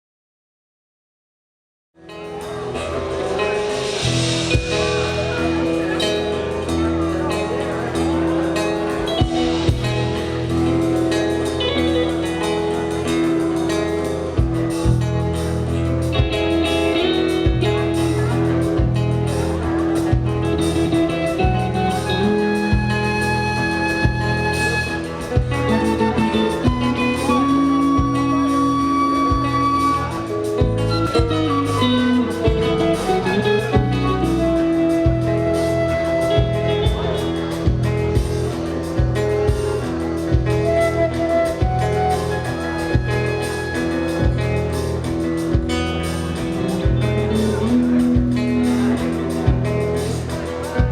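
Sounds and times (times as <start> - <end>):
guitar notes: 2.0 - 50.9
live band music: 2.0 - 50.9
steady bass: 2.1 - 50.9
sharp drum beats: 3.6 - 50.9.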